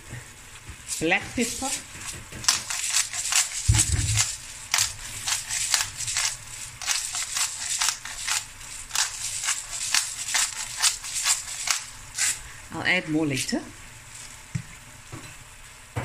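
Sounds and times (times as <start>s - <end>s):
bones frying with crackles: 0.0s - 15.9s.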